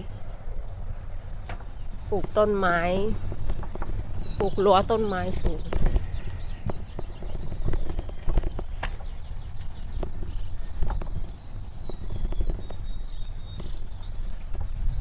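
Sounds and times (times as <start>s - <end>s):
bicycle rumble and clicks: 0.0s - 15.0s
songbirds chirping: 0.0s - 15.0s.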